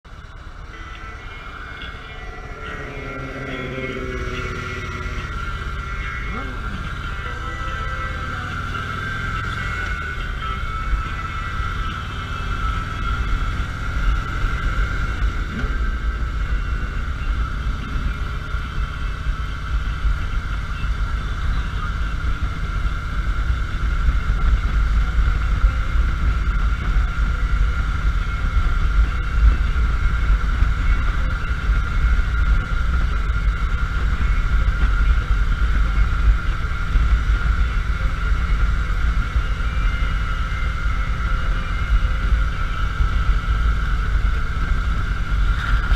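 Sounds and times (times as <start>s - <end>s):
motorcycle engine rumbling: 0.0s - 45.9s
steady high whine: 0.0s - 45.9s
wind noise: 0.0s - 45.9s.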